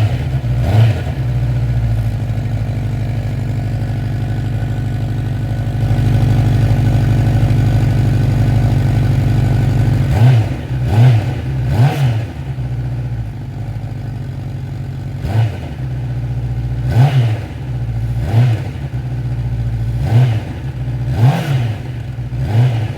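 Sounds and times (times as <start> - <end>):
motorcycle engine idling and revving: 0.0 - 22.9.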